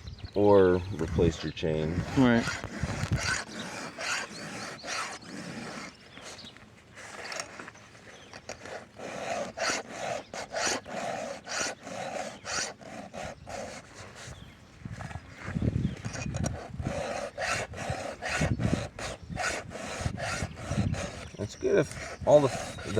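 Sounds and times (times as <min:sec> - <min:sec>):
file rasping on chainsaw teeth: 0:01.0 - 0:15.2, 0:16.1 - 0:22.9.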